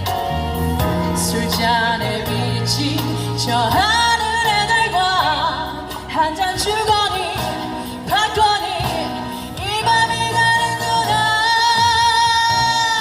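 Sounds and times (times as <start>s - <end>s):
bass and chordal accompaniment: 0.0s - 13.0s
person singing ballad: 0.0s - 13.0s.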